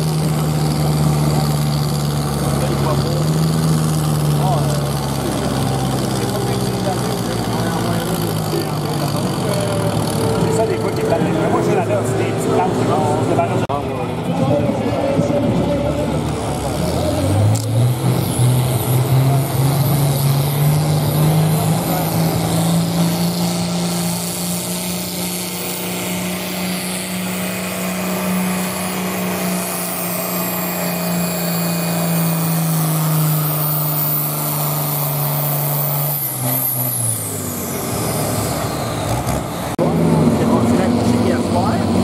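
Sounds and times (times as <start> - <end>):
tractor diesel engine revving: 0.0 - 42.0.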